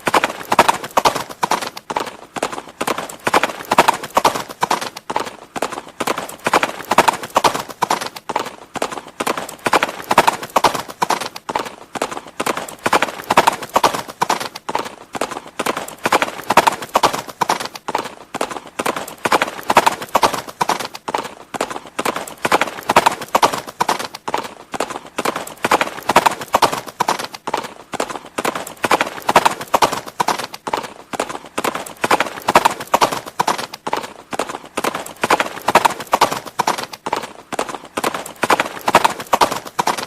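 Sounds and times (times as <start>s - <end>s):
horse hooves clip-clopping: 0.0s - 40.0s.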